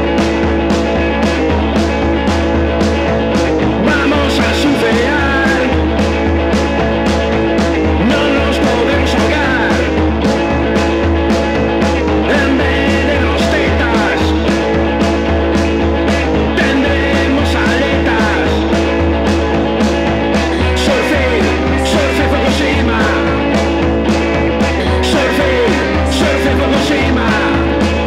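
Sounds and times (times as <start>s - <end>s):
instrumental surf rock: 0.0s - 28.0s.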